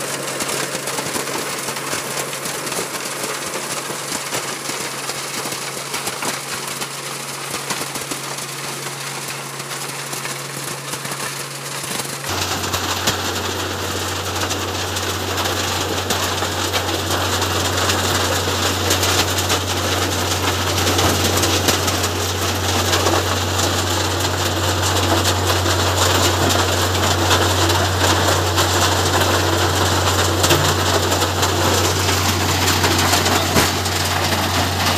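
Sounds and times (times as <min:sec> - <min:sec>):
road milling machine running: 0:00.0 - 0:34.9.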